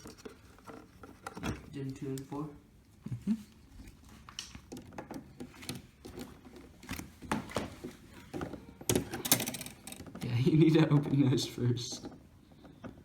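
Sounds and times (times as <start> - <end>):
computer parts clicking and rustling: 0.0 - 2.5, 3.6 - 13.0.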